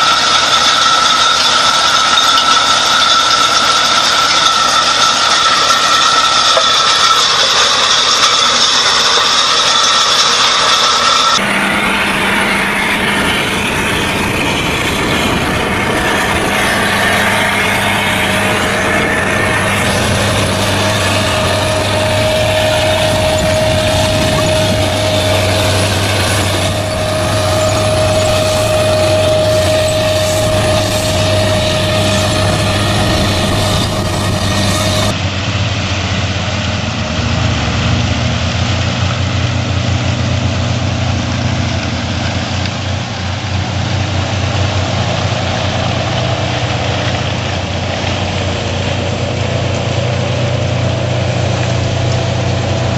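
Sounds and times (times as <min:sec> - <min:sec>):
heavy machinery engines humming: 0:00.0 - 0:52.9.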